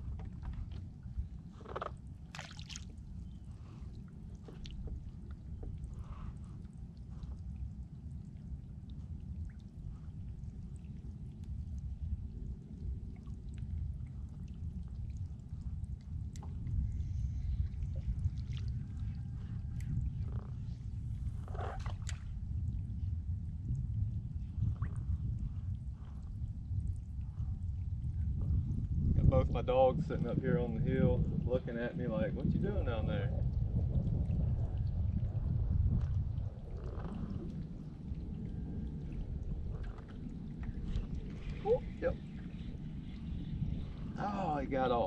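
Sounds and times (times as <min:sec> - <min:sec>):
low rumble: 0:00.0 - 0:45.0
water lapping against hull: 0:00.0 - 0:45.0.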